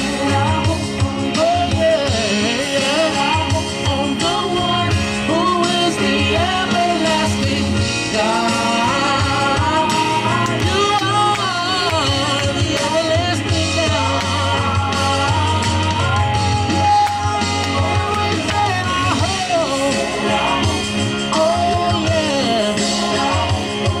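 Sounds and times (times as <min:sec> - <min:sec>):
band playing worship song: 0:00.0 - 0:24.0
steady bass line: 0:00.0 - 0:24.0.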